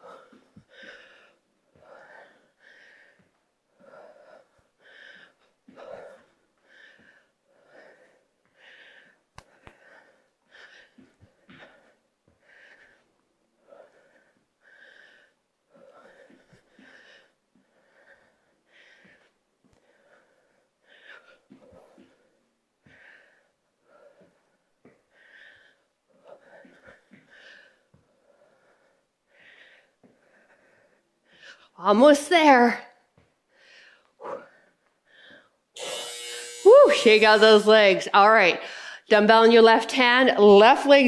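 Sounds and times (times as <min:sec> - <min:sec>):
woman breathing hard: 0:00.0 - 0:31.8, 0:33.4 - 0:35.7, 0:38.6 - 0:39.1.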